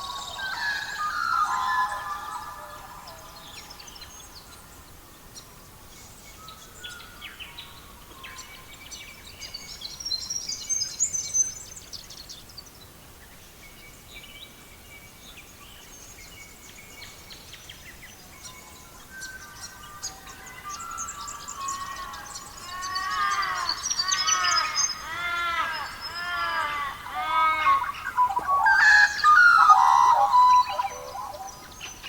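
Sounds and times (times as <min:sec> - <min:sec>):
faint steady hiss: 0:00.0 - 0:32.0
songbirds chirping: 0:00.0 - 0:32.0.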